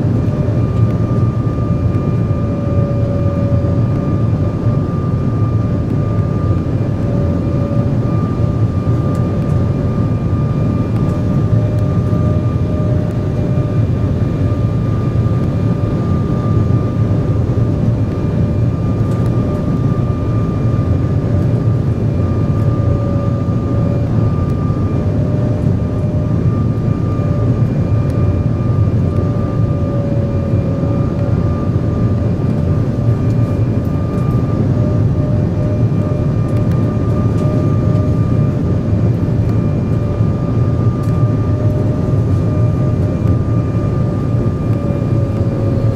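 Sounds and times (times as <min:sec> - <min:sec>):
airliner cabin air and engine noise: 0:00.0 - 0:45.9
steady whine: 0:00.0 - 0:45.9.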